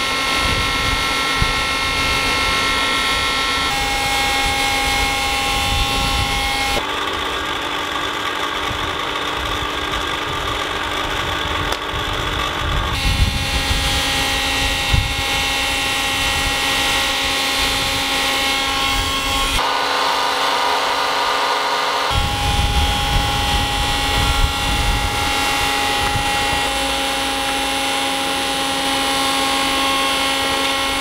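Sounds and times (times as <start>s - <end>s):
motor-like whirring drone: 0.0s - 31.0s.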